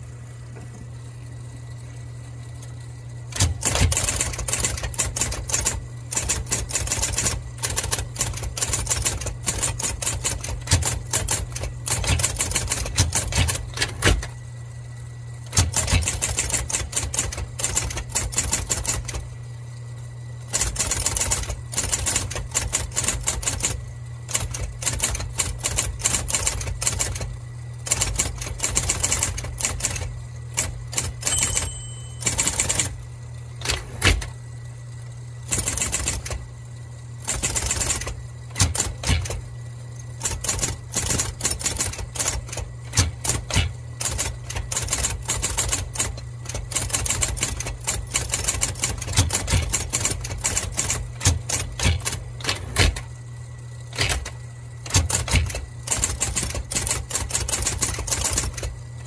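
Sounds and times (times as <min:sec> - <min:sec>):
typewriter motor humming: 0:02.5 - 0:19.5, 0:20.4 - 0:34.4, 0:35.4 - 0:36.5, 0:37.2 - 0:59.0
electric typewriter key strikes: 0:03.3 - 0:14.4, 0:15.4 - 0:19.3, 0:20.5 - 0:27.3, 0:27.9 - 0:33.0, 0:33.6 - 0:34.3, 0:35.5 - 0:36.4, 0:37.2 - 0:39.4, 0:40.1 - 0:53.1, 0:53.9 - 0:58.8.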